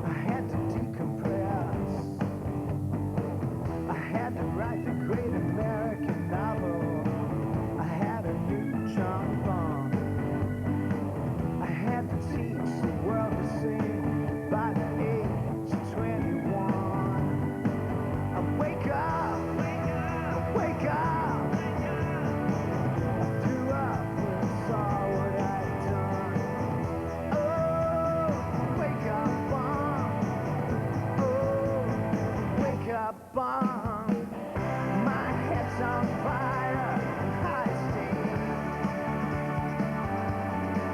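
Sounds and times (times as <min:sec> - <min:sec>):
rock music with singing: 0:00.0 - 0:40.9.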